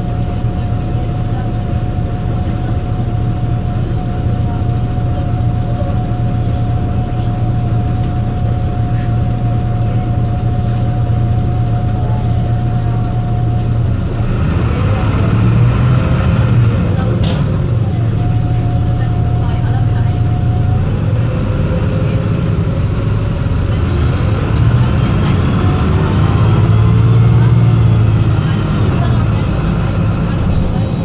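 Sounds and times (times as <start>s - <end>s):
diesel bus engine idling: 0.0s - 31.0s.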